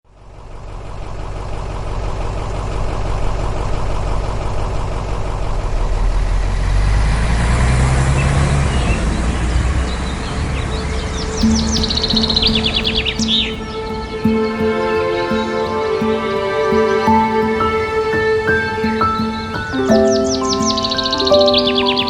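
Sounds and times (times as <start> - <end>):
van engine running: 0.2 - 22.0.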